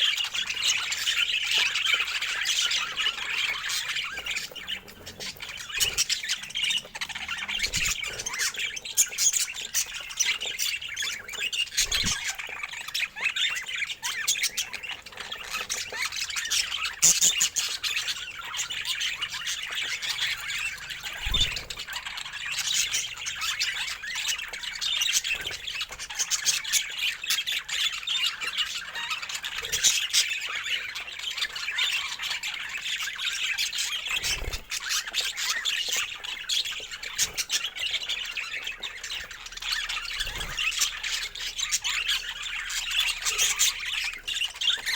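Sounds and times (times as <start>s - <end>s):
budgerigars chattering and squawking: 0.0s - 44.9s.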